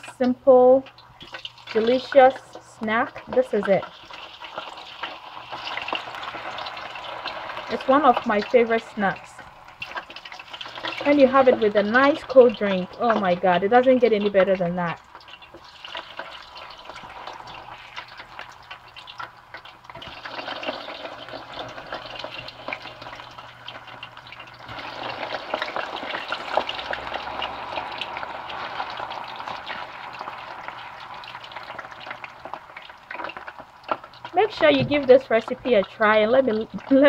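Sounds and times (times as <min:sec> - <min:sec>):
plantain slices sizzling in oil: 0:00.0 - 0:37.0.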